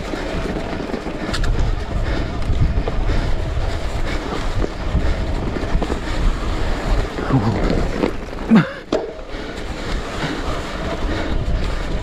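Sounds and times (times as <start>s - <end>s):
bike rattling and clicking: 0.0s - 12.0s
tyre noise: 0.0s - 12.0s
wind rumbling on microphone: 0.0s - 12.0s.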